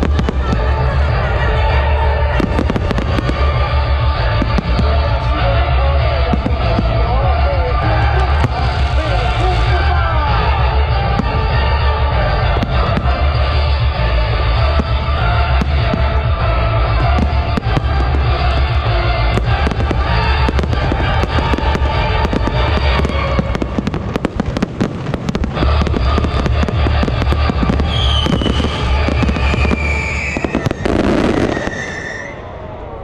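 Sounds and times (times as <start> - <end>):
loud music: 0.0 - 32.0
fireworks bursting: 0.0 - 33.0.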